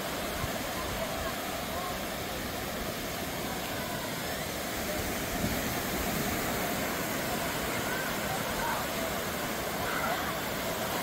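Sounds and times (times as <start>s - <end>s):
faint voices: 0.0s - 11.0s
waves breaking on shore: 0.0s - 11.0s.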